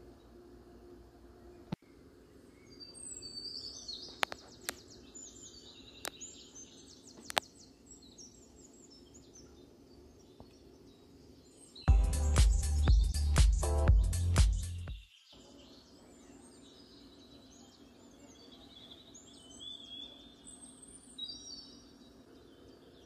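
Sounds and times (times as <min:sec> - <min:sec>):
faint steady hum: 0:00.0 - 0:23.0
small birds chirping: 0:00.0 - 0:23.0.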